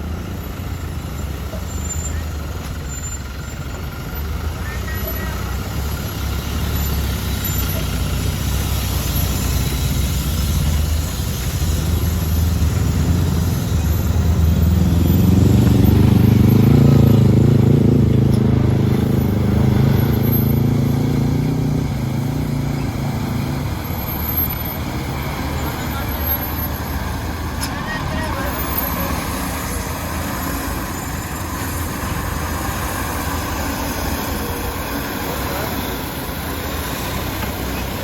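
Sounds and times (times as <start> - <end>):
truck diesel engine rumbling: 0.0 - 38.0.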